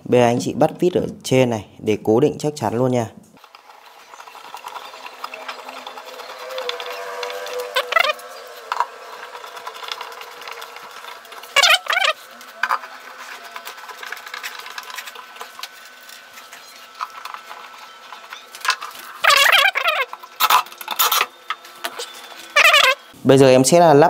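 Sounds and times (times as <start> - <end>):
board panels squeaking: 3.4 - 23.2.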